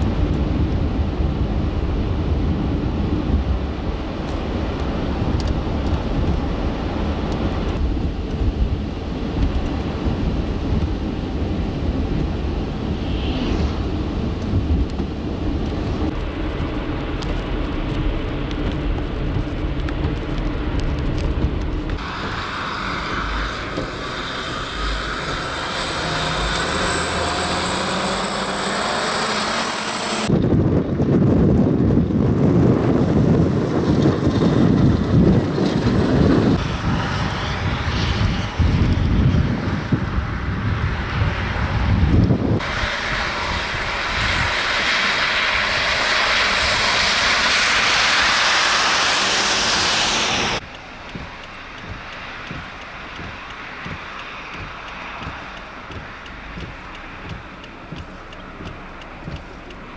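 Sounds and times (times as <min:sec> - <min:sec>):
high steady engine whine: 0:00.0 - 0:59.9
road and wind rumble: 0:00.0 - 0:59.9.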